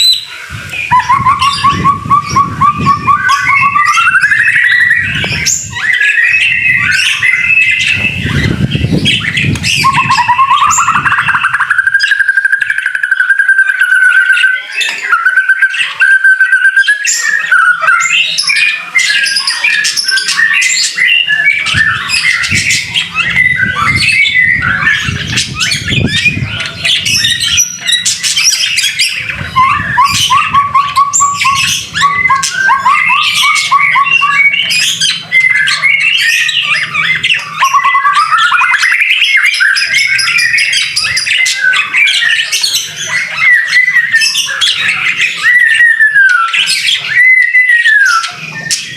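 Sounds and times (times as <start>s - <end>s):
bird singing whistled song: 0.0s - 48.9s.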